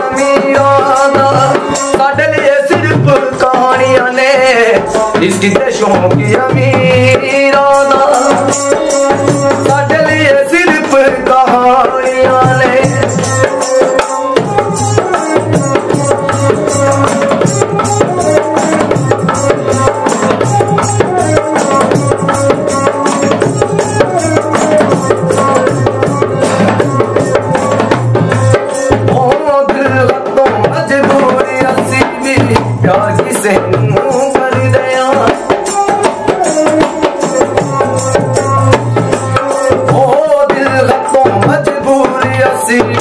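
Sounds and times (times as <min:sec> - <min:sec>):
hand drum folk rhythm: 0:00.0 - 0:43.0
held melodic tones: 0:04.8 - 0:29.9, 0:31.1 - 0:43.0.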